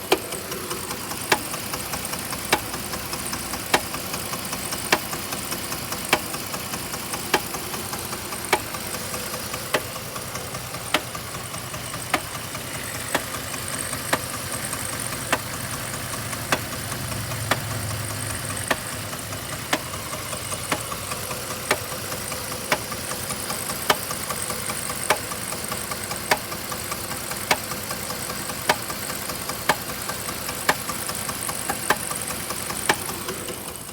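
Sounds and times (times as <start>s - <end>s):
sharp engine knock: 0.0s - 33.8s
engine running: 0.0s - 33.9s
faint engine ticks: 0.0s - 33.9s.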